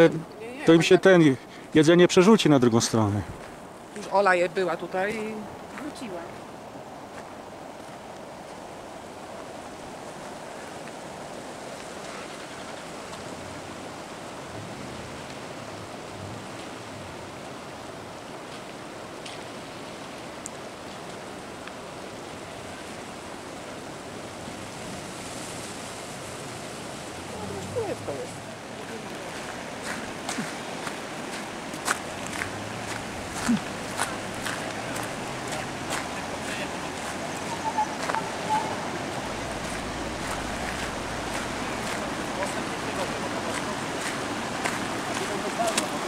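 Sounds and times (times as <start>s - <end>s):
flooded stream rushing: 0.0s - 46.0s.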